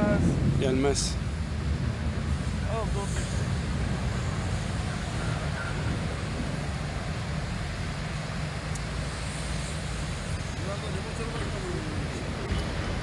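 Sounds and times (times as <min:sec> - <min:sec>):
wind noise on microphone: 0:00.0 - 0:10.7
ship engine low rumble: 0:00.0 - 0:13.0.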